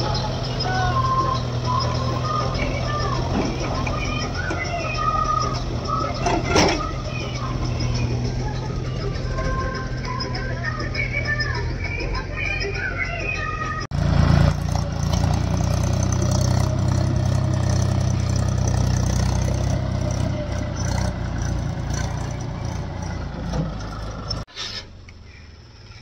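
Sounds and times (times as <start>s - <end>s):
heavy diesel engine running: 0.0s - 24.5s.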